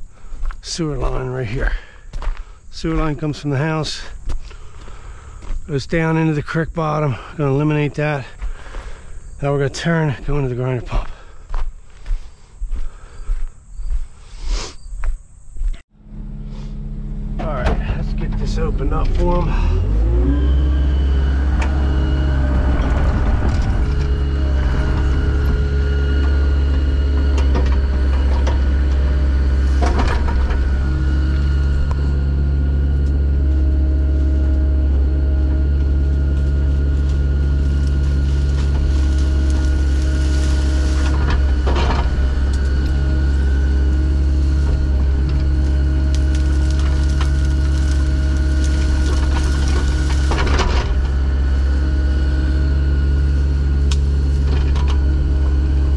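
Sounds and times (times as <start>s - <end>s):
heavy engine droning: 0.0s - 13.5s, 15.7s - 55.9s.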